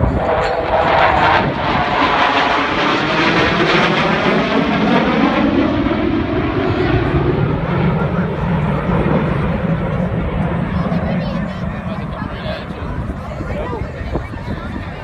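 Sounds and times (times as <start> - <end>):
fighter jets flying past: 0.0 - 15.0.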